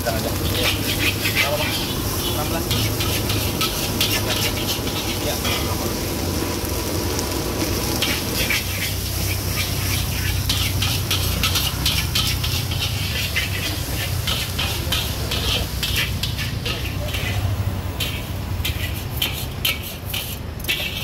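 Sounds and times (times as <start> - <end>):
metal spatula scraping a wok: 0.0 - 21.0
rice sizzling in a wok: 0.0 - 21.0.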